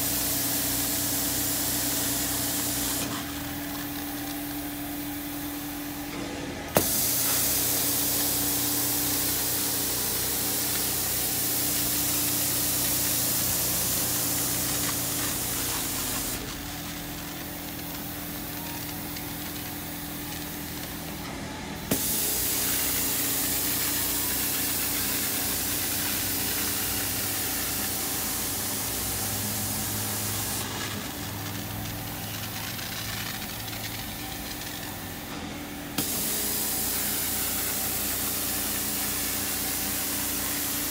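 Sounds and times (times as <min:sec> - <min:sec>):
carpet extractor motor hum: 0:00.0 - 0:40.9.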